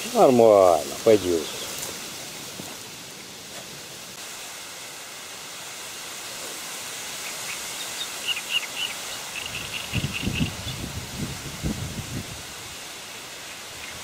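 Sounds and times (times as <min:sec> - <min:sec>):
rippling water: 0:00.0 - 0:14.0
wind hiss: 0:00.0 - 0:14.0.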